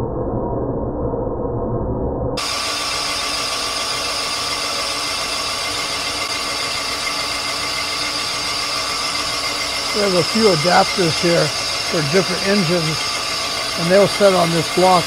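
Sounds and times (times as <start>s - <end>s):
boring machine whine: 2.4s - 15.0s.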